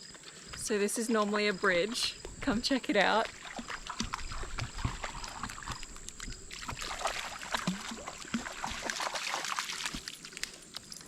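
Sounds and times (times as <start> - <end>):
floodwater moving and lapping: 0.0 - 11.0.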